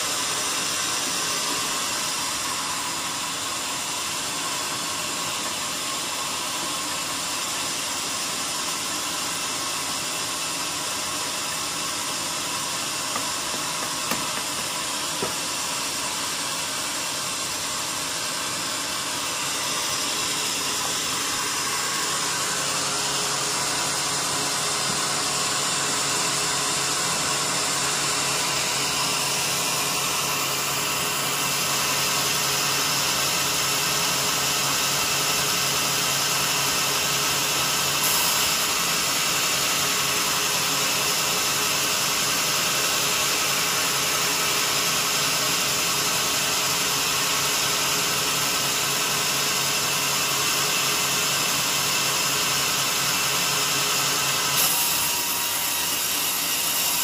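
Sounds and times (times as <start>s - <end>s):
band saw cutting wood: 8.2s - 57.0s.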